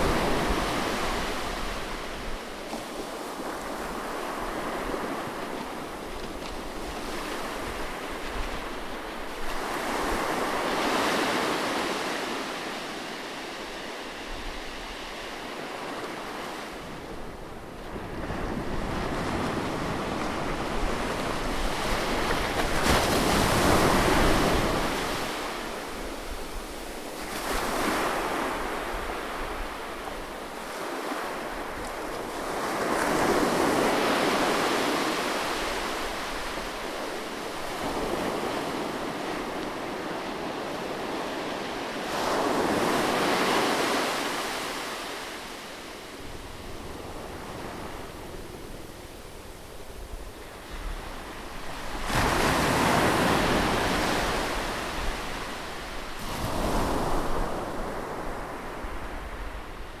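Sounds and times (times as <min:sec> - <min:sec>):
sea waves breaking on shore: 0:00.0 - 1:00.0.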